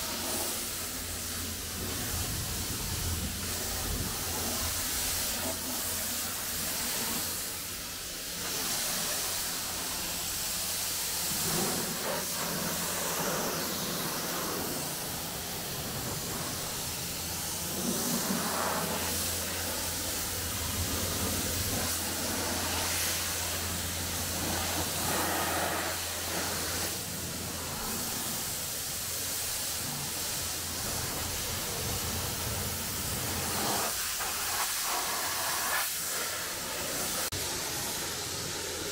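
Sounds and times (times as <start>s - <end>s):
high-pressure spray hissing on car: 0.0s - 38.9s.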